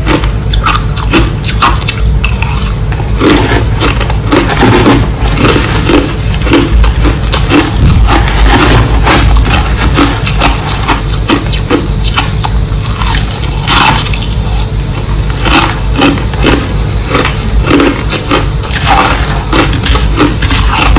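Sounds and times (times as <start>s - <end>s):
ice being chewed: 0.0s - 20.9s.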